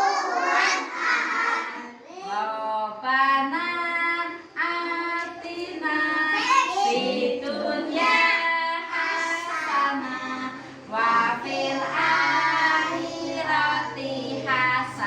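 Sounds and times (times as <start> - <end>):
young children singing: 0.0 - 2.5, 4.6 - 15.0
woman singing: 2.3 - 15.0.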